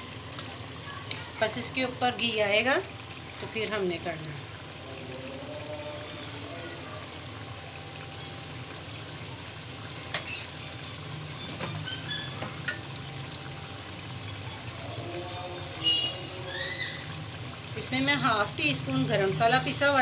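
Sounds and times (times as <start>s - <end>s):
gravy sizzling and bubbling: 0.0s - 20.0s.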